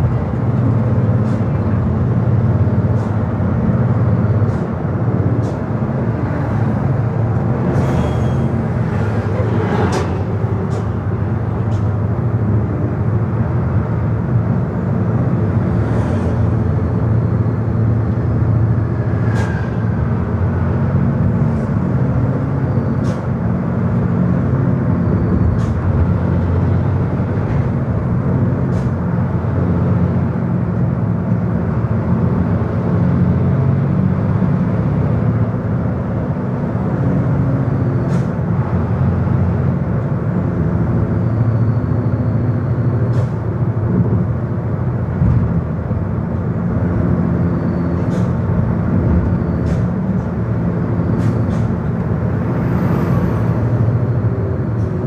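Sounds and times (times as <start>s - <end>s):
engine and tyre drone: 0.0s - 55.0s.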